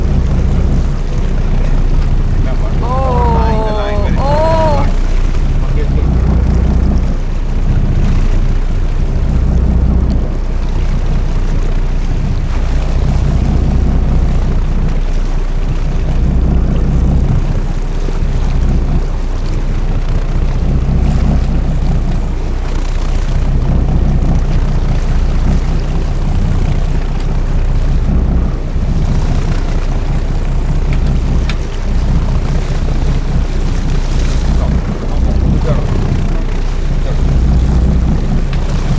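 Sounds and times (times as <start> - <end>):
water noise: 0.0 - 17.5, 18.3 - 38.9
boat engine droning: 0.0 - 38.9
wind: 0.0 - 38.9.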